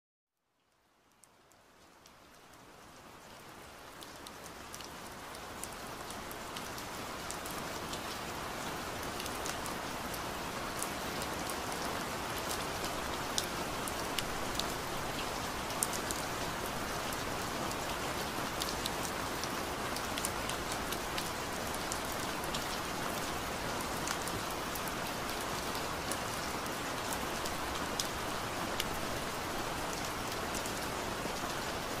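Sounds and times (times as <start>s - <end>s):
steady rain falling: 0.4s - 32.0s.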